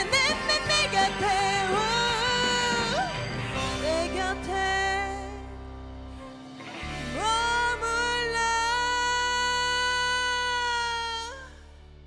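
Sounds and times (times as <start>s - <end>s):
woman singing a ballad: 0.0s - 5.6s, 6.9s - 11.8s.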